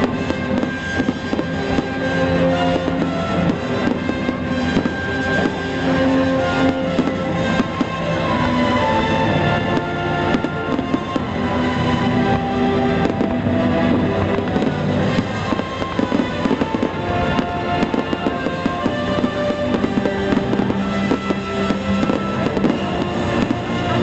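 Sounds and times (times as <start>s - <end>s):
fireworks bursting and crackling: 0.0s - 24.0s
music playing: 0.0s - 24.0s.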